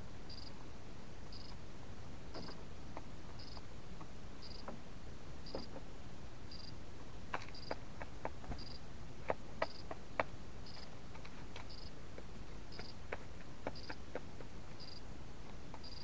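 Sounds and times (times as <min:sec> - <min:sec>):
pheasant pecking at feed: 0:02.3 - 0:16.0.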